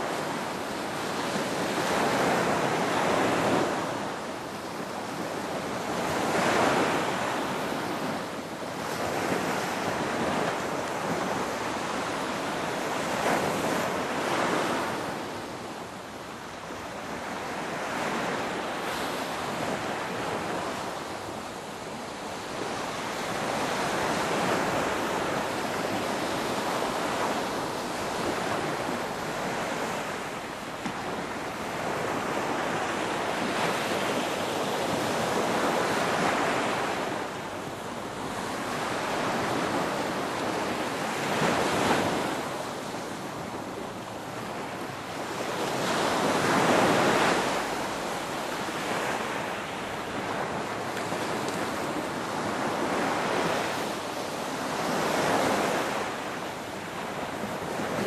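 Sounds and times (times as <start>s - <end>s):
ocean waves breaking on shore: 0.0s - 58.0s
wind: 0.0s - 58.0s.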